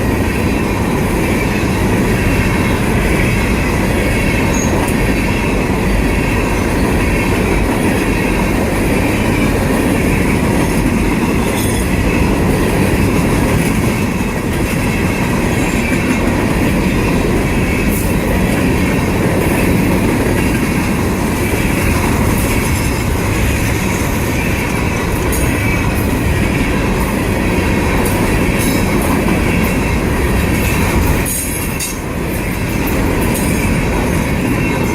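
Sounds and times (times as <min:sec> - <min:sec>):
freight train wheels rumbling: 0:00.0 - 0:34.9
rail joint clicks: 0:00.0 - 0:34.9.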